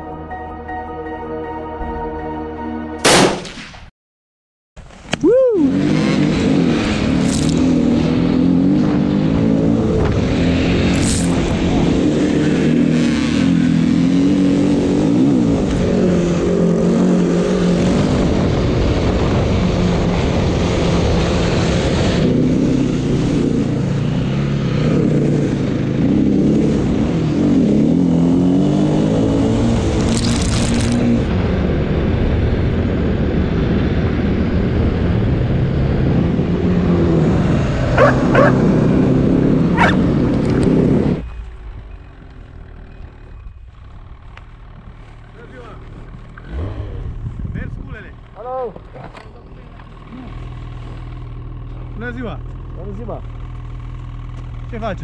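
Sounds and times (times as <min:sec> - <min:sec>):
motorcycle engine revving: 0:05.5 - 0:55.0.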